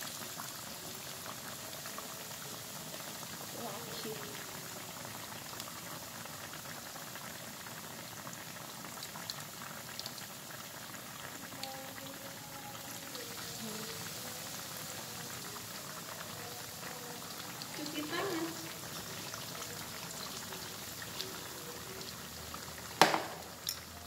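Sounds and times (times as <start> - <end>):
fritters deep-frying in oil: 0.0 - 24.0.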